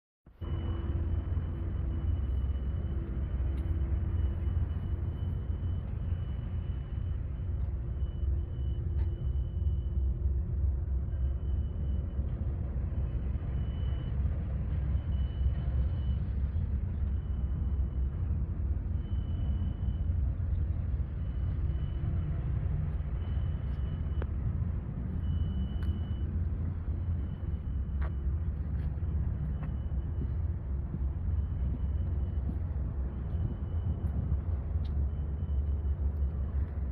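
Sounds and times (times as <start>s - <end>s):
diesel generator running: 0.3s - 36.9s.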